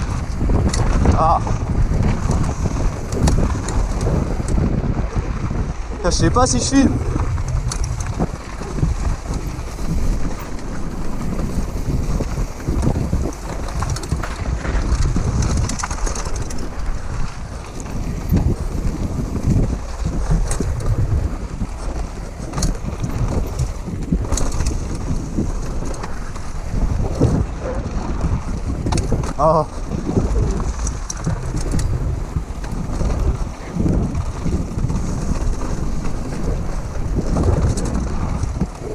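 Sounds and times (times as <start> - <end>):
bike rattling over bumps: 0.0 - 38.9
tyres on loose dirt: 0.0 - 38.9
wind buffeting microphone: 0.0 - 38.9.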